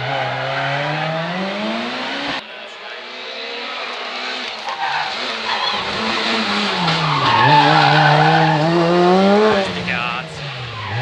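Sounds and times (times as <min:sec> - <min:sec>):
rally car engine: 0:00.0 - 0:11.0
tyres skidding and squealing: 0:00.0 - 0:11.0.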